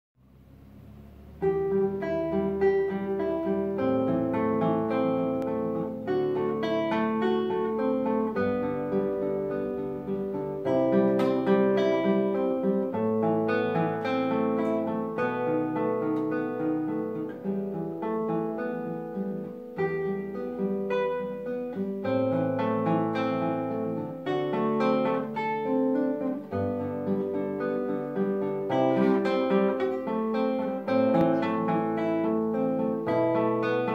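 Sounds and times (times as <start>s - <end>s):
classical guitar fingerstyle: 0.2s - 33.9s.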